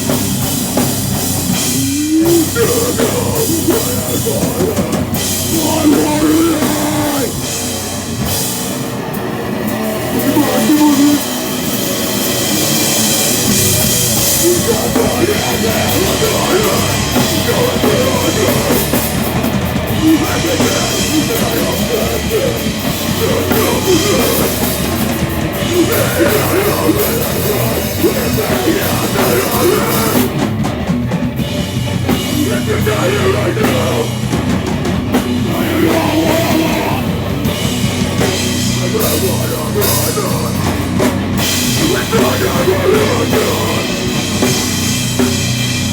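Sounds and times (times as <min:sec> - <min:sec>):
live heavy rock band playing: 0:00.0 - 0:45.9.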